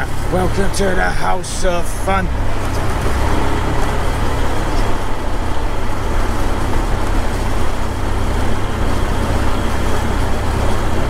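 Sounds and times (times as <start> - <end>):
motorcycle engine rumble: 0.0 - 11.0
road and traffic hiss: 0.0 - 11.0.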